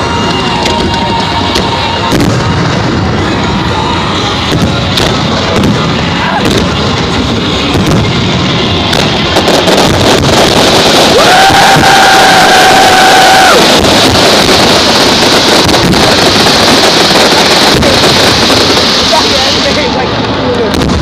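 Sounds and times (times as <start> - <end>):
loud steady horn: 0.0 - 20.1
crowd noise: 0.0 - 21.0
fireworks bangs and crackles: 0.0 - 21.0.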